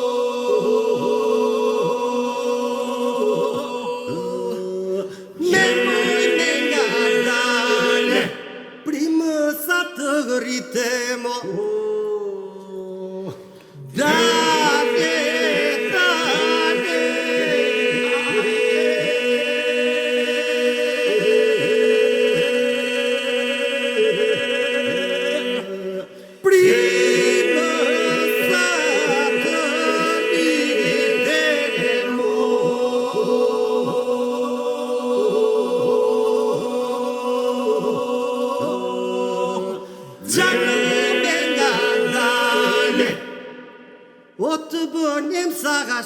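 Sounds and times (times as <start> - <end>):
unaccompanied group singing: 0.0 - 44.3.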